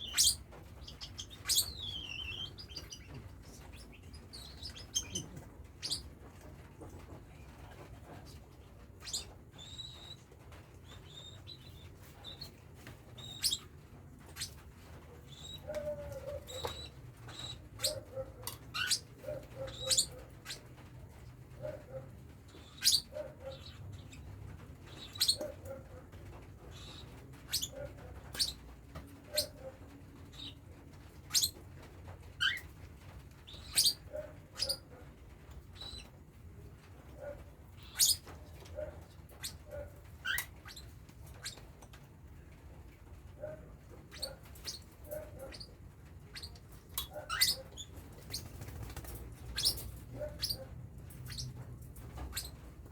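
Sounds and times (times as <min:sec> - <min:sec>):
cockatiels chirping: 0:00.0 - 0:07.1, 0:09.0 - 0:21.9, 0:22.5 - 0:36.1, 0:37.4 - 0:41.6, 0:44.0 - 0:52.7.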